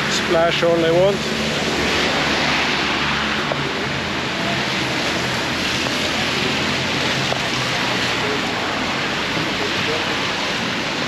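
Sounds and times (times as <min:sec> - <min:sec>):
rain and water hissing: 0:00.0 - 0:11.0.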